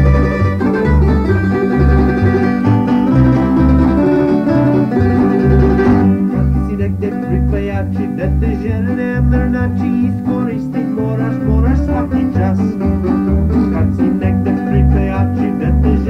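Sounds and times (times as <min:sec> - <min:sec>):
plucked string instruments: 0:00.0 - 0:16.0
pulsing bass line: 0:00.0 - 0:16.0.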